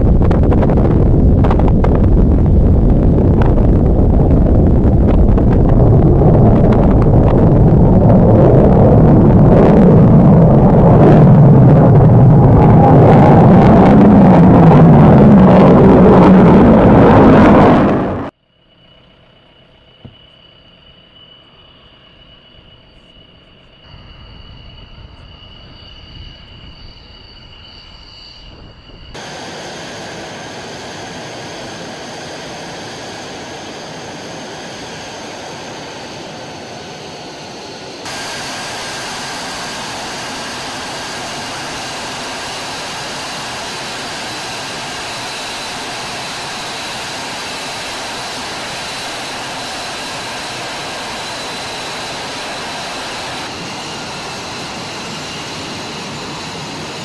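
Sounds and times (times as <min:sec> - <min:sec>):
jet engine rush with high whine: 0:00.0 - 0:57.0.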